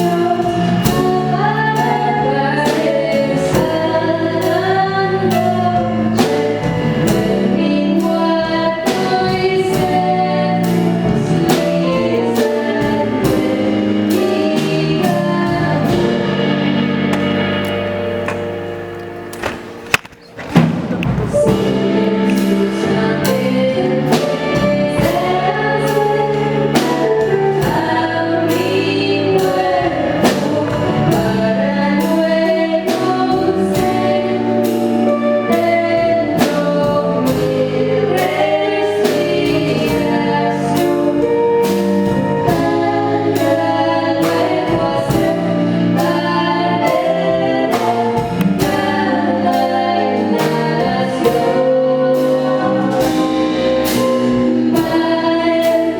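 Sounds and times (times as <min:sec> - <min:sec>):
voices singing together: 0:00.0 - 0:18.6, 0:21.3 - 0:55.9
instrumental accompaniment: 0:00.0 - 0:55.9.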